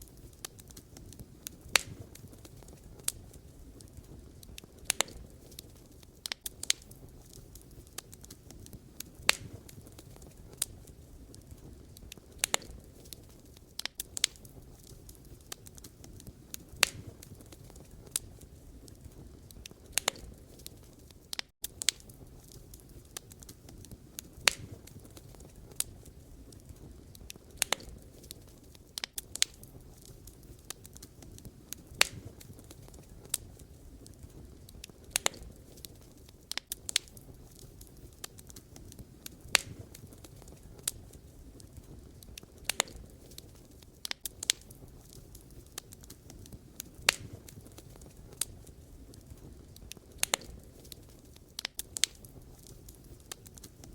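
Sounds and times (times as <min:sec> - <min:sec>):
campfire crackling and popping: 0:00.0 - 0:53.9
low rumble of flames: 0:00.0 - 0:53.9.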